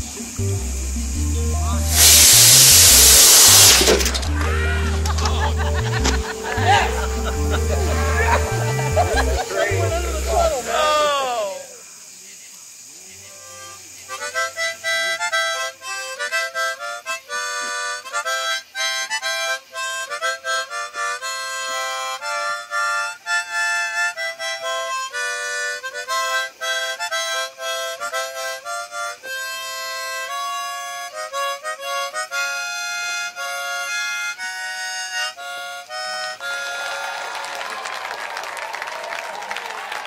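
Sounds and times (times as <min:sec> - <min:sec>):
harmonica playing fast tune: 0:00.0 - 0:11.1, 0:13.4 - 0:37.0.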